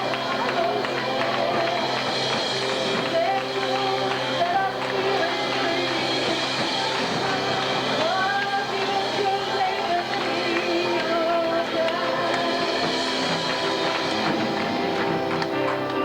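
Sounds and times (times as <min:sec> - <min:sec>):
voices singing: 0:00.0 - 0:15.6
band playing: 0:00.0 - 0:16.0.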